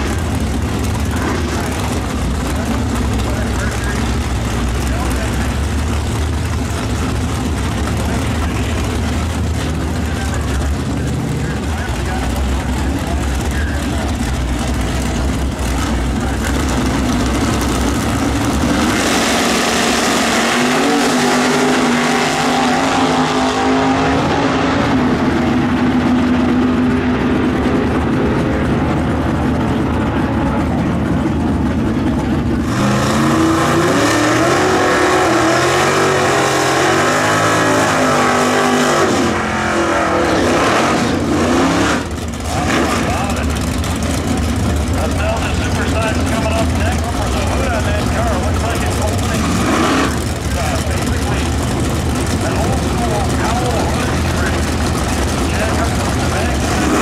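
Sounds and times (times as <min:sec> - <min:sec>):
car engine revving: 0:00.0 - 0:57.0
drag car engines accelerating: 0:00.0 - 0:57.0.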